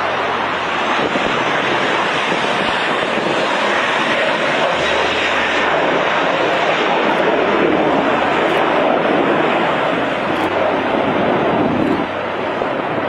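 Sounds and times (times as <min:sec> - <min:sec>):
airliner engines rushing: 0:00.0 - 0:13.0.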